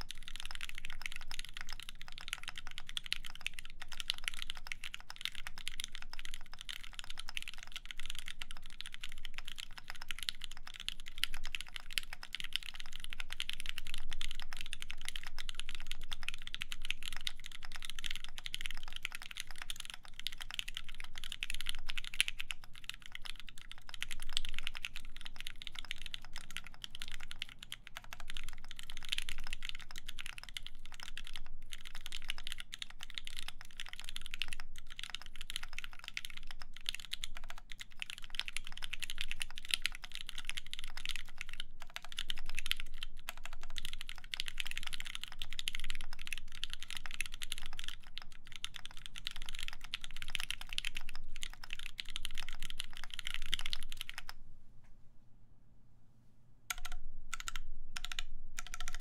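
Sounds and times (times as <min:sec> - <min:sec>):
fast typing on mechanical keyboard: 0:00.0 - 0:54.4, 0:56.7 - 0:59.0.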